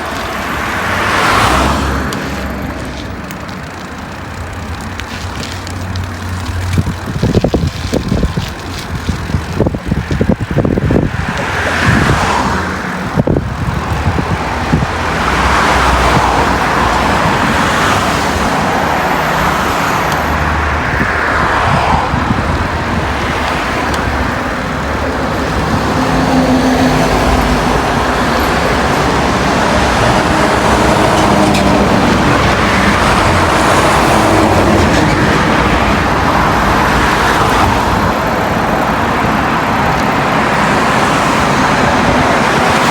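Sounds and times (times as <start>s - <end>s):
cars passing: 0.0s - 42.9s
wind rumbling on microphone: 0.0s - 42.9s.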